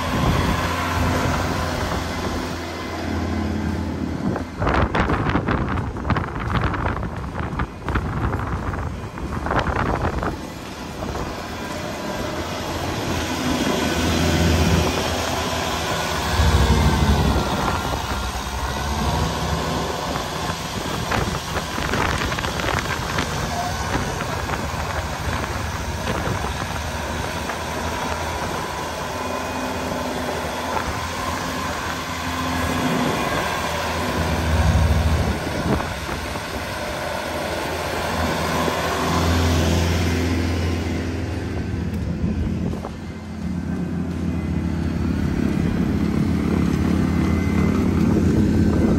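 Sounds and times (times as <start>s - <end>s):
tractor engine running: 0.0s - 48.9s
wind blowing across microphone: 0.0s - 48.9s.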